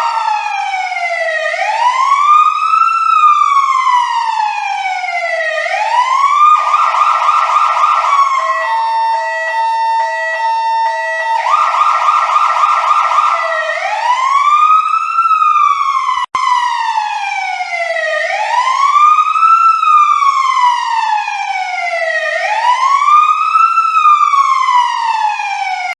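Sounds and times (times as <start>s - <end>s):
electronic siren wailing and warbling: 0.0s - 25.9s.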